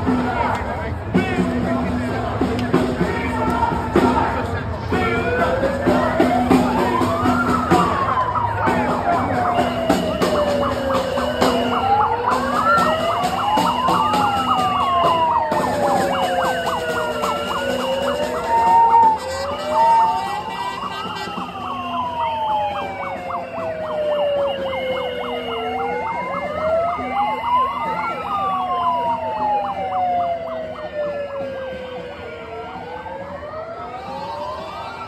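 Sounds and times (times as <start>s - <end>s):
wailing siren: 3.4s - 35.0s
yelping siren: 5.0s - 35.0s.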